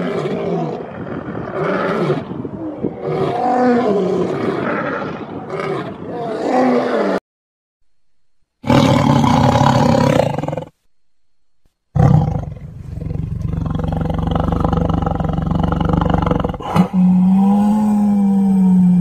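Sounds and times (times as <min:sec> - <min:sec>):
big cat roaring: 0:00.0 - 0:07.2, 0:08.6 - 0:10.7, 0:12.0 - 0:19.0.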